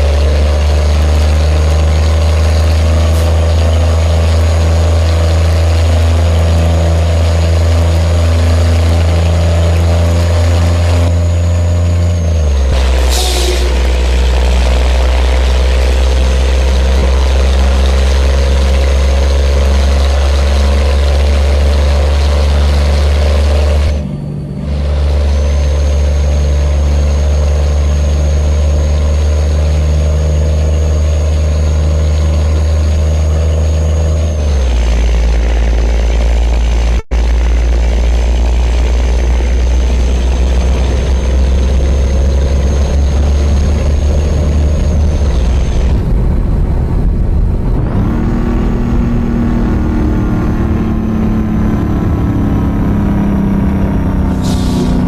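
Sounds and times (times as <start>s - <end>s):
truck engine droning under load: 0.0s - 55.0s.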